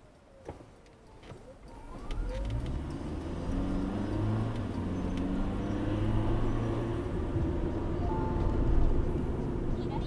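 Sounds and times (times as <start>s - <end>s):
tyre and road noise: 0.0s - 10.0s
car engine accelerating: 1.9s - 10.0s.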